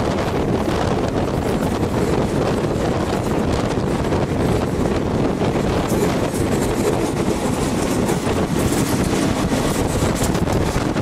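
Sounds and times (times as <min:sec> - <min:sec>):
moving train rumbling: 0:00.0 - 0:11.0
wind buffeting microphone: 0:00.0 - 0:11.0.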